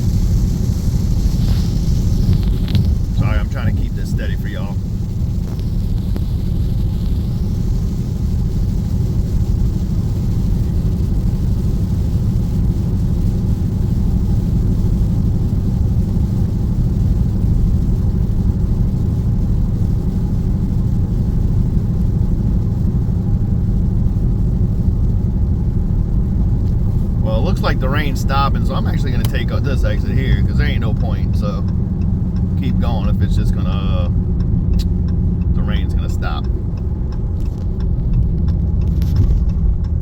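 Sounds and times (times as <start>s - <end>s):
car engine droning in cabin: 0.0s - 40.0s
tyre noise on wet road: 0.0s - 40.0s.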